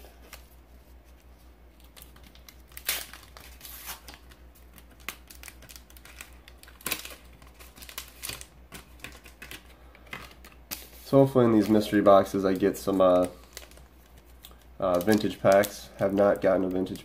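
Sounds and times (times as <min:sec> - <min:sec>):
foil wrapper crinkling and tearing: 0:01.8 - 0:17.0.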